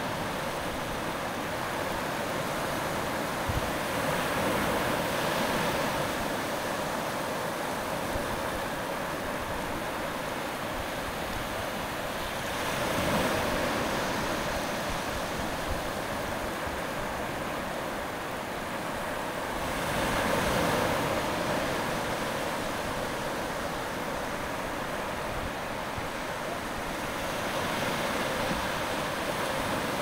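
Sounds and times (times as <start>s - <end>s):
surf washing on shore: 0.0s - 30.0s.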